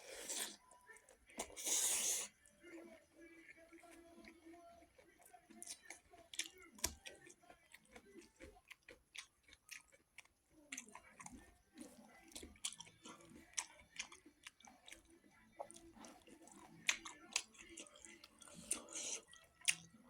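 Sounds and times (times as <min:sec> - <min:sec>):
close chewing with wet smacks: 0:00.1 - 0:20.0.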